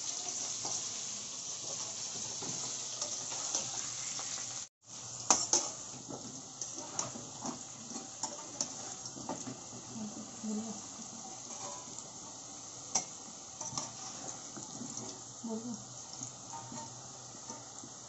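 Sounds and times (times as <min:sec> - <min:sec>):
potatoes sizzling in oil: 0:00.0 - 0:18.0.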